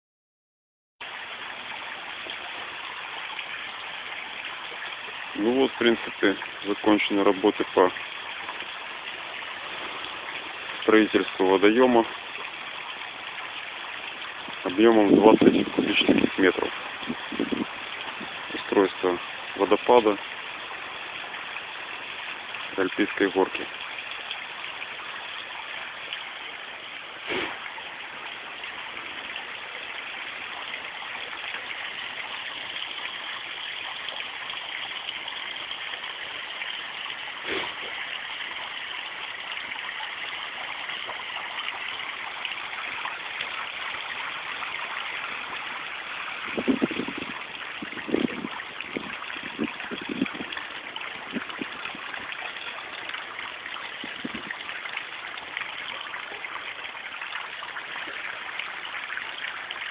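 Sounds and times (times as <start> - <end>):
waterfall splashing over rocks: 1.0 - 59.9.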